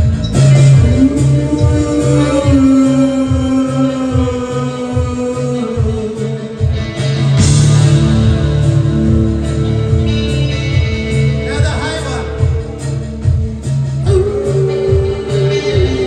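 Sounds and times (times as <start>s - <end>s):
live band playing: 0.0s - 16.0s
pulsing bass rhythm: 0.0s - 16.0s.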